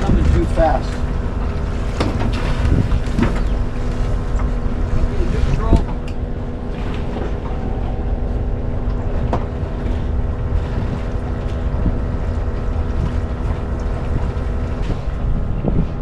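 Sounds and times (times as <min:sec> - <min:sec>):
boat engine idling: 0:00.0 - 0:16.0
wind rumbling on microphone: 0:00.0 - 0:16.0.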